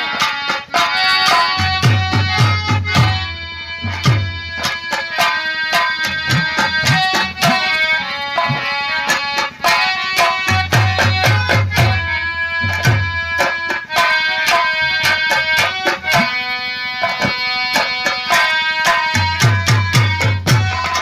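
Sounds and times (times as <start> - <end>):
harmonium melody: 0.0 - 21.0.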